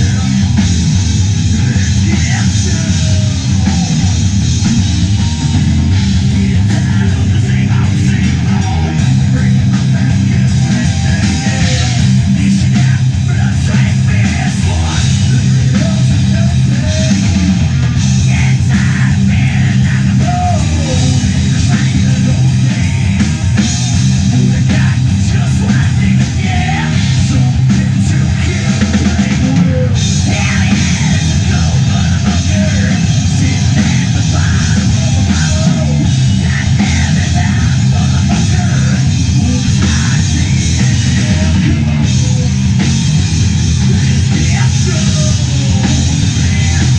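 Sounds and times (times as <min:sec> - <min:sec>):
drum kit: 0:00.0 - 0:46.9
electric guitar: 0:00.0 - 0:46.9.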